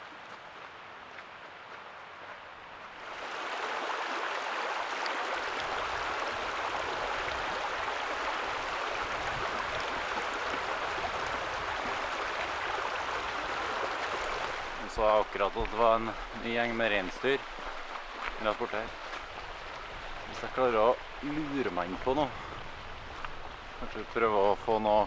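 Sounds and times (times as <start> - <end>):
rocky stream rushing: 0.0 - 25.0.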